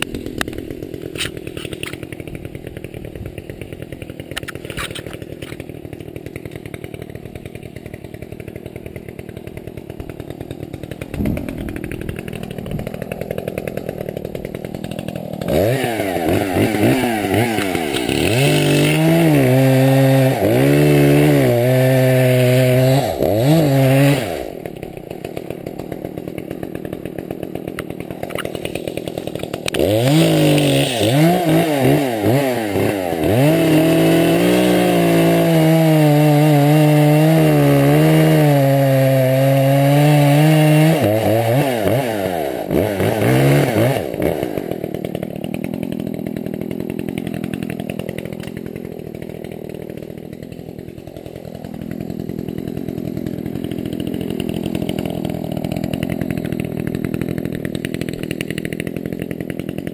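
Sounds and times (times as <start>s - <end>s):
chainsaw idling and revving: 0.0s - 59.9s.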